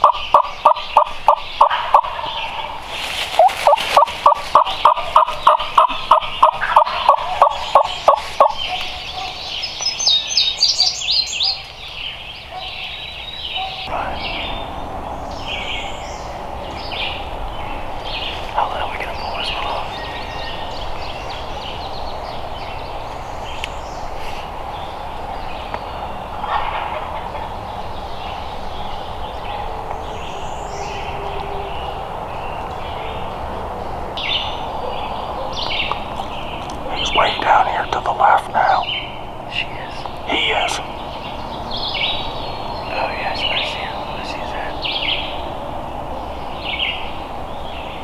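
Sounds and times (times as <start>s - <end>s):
outdoor background noise: 0.0s - 48.0s
songbird calls and chirps: 0.0s - 48.0s.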